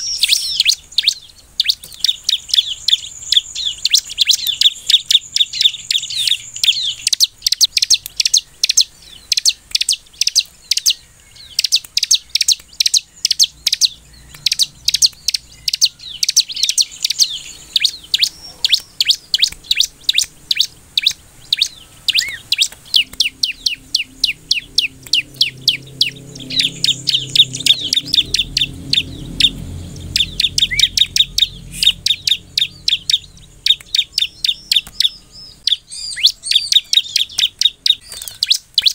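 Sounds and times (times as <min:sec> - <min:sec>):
bird singing high chip notes: 0:00.0 - 0:38.9.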